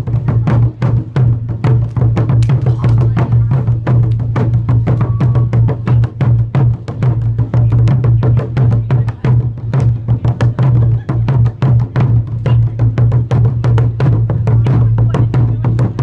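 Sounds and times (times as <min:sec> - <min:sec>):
fast loud barrel drumming: 0:00.0 - 0:16.0.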